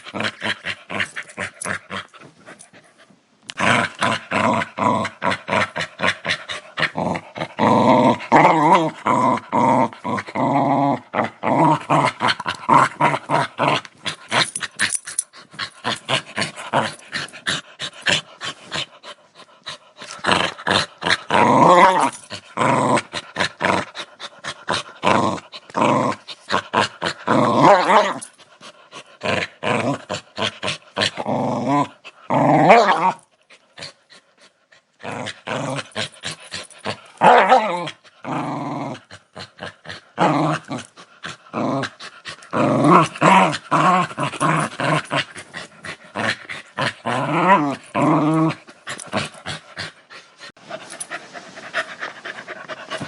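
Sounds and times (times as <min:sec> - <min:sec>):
dog growling aggressively: 0:00.0 - 0:02.6, 0:03.5 - 0:34.3, 0:35.0 - 0:53.0.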